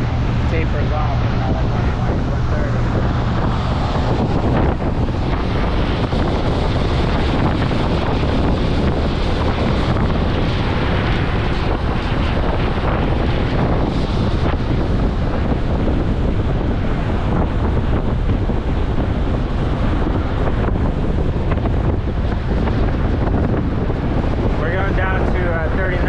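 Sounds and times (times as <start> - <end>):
boat rushing through water: 0.0 - 26.0
wind buffeting microphone: 0.0 - 26.0.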